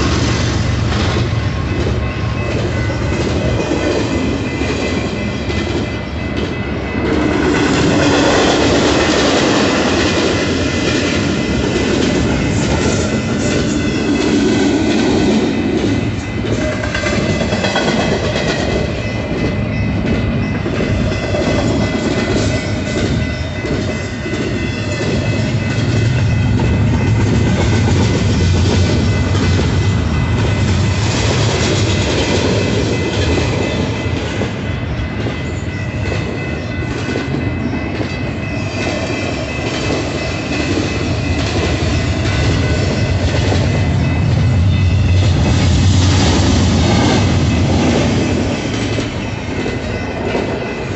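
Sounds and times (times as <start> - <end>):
clickety-clack over rail joints: 0.0 - 50.9
freight train wheels rumbling: 0.0 - 50.9.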